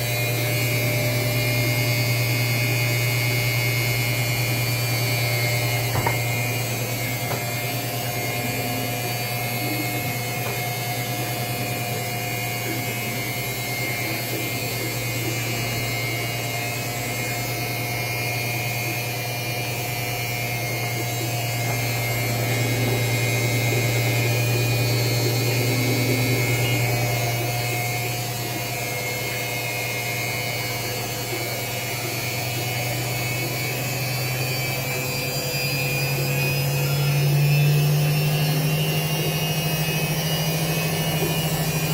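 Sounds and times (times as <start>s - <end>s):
washing machine motor humming: 0.0s - 41.9s.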